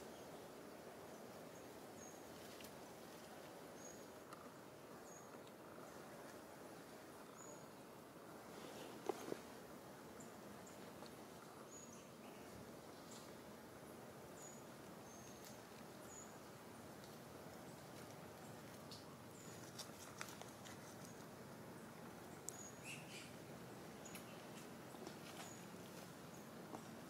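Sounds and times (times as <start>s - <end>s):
faint hiss: 0.0s - 27.0s.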